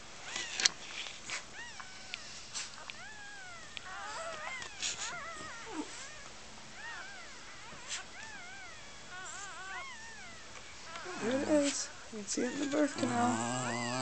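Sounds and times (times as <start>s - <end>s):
puppies squeaking and whining: 0.2s - 14.0s.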